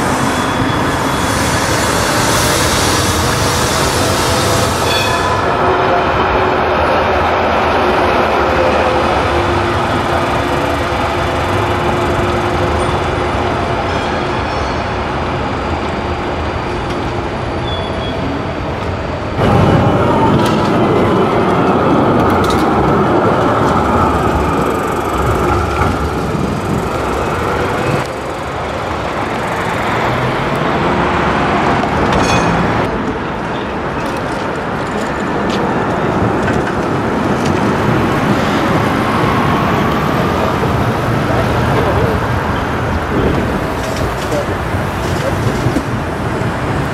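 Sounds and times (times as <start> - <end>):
city road traffic: 0.0 - 46.9
electric tram drive whine: 0.0 - 46.9
wheel noise on rails: 0.0 - 46.9.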